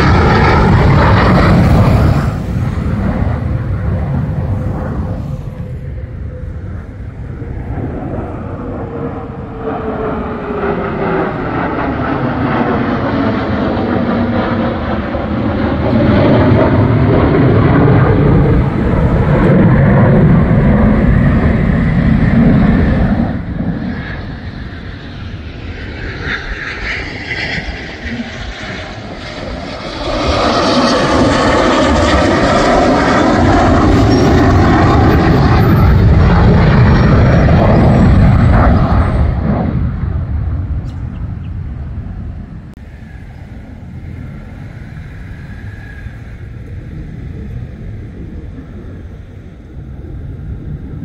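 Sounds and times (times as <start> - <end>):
fighter jets roaring: 0.0 - 51.0.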